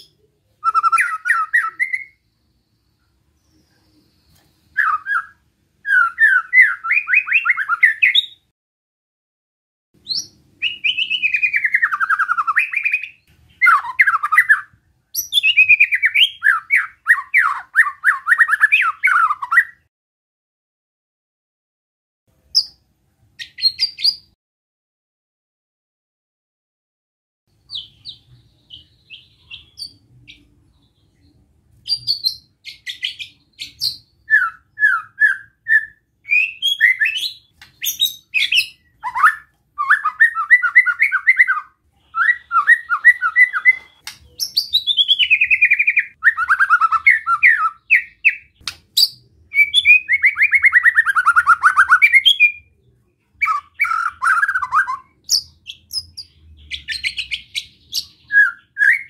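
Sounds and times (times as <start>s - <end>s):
bird singing whistles and trills: 0.0s - 2.2s, 3.4s - 8.5s, 10.0s - 19.8s, 22.5s - 22.8s, 23.4s - 24.4s, 27.6s - 52.8s, 53.4s - 59.0s.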